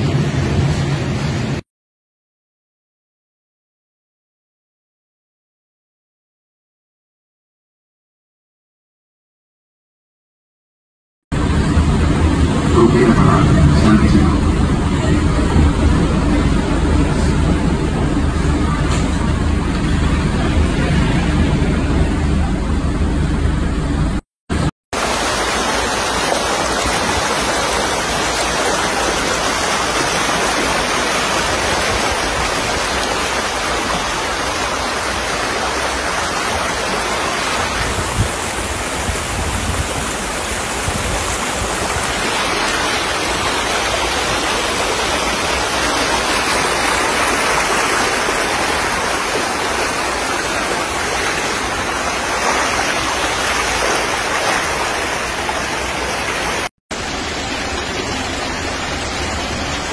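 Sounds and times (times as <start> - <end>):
floodwater rushing: 11.4 - 59.9.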